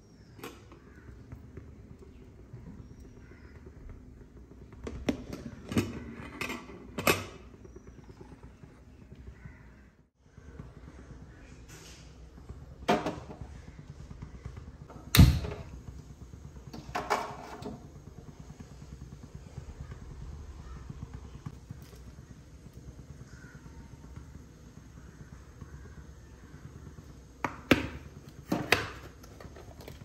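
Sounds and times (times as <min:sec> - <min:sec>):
low steady rumble: 0:00.0 - 0:28.3.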